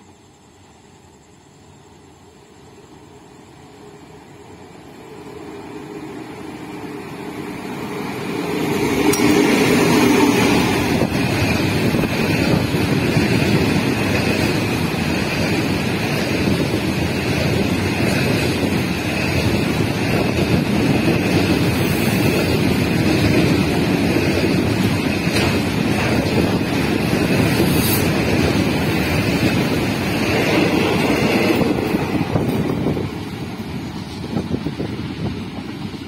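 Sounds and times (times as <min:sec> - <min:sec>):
diesel locomotive passing: 0:00.0 - 0:36.0
train wheels rumbling on rails: 0:01.2 - 0:36.0.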